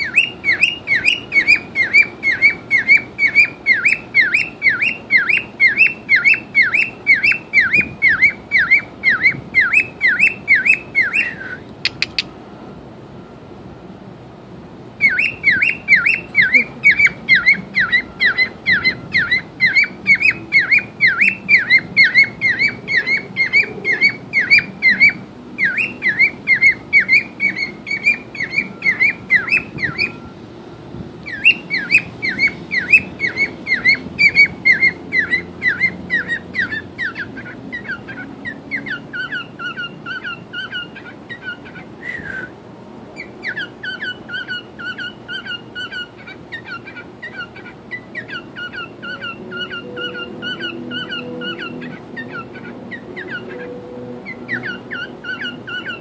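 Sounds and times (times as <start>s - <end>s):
cockatiel chirping: 0.0s - 12.3s, 15.0s - 30.3s, 31.3s - 42.4s, 43.2s - 56.0s.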